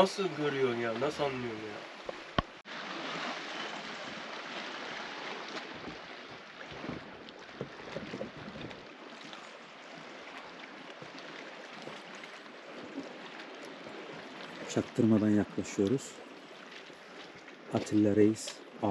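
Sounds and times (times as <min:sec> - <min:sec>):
water rushing along boat hull: 0:00.0 - 0:18.9.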